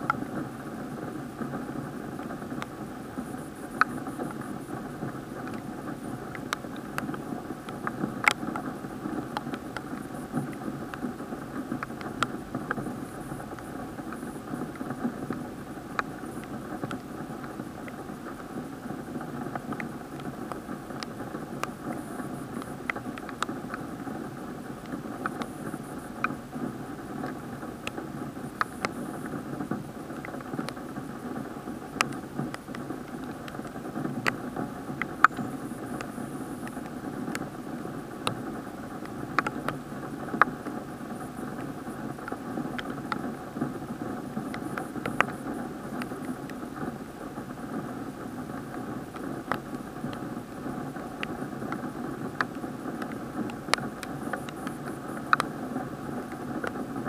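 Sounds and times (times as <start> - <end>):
muffled rain: 0.0 - 57.0
raindrops ticking on plastic housing: 0.0 - 57.0.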